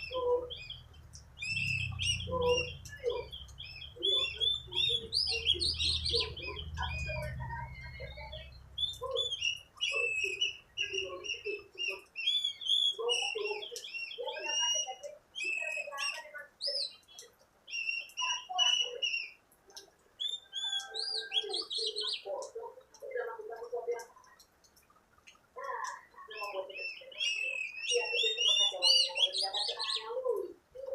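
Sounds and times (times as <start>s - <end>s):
magpie-robin singing: 0.0s - 24.5s, 25.6s - 30.9s.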